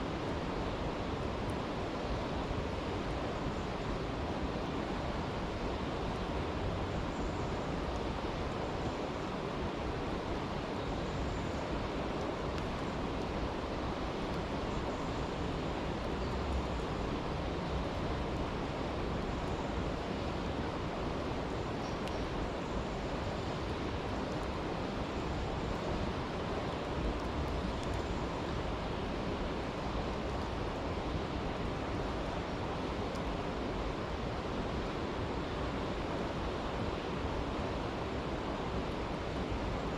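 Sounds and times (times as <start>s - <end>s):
stream rushing: 0.0s - 39.9s
campfire crackling: 7.8s - 39.9s.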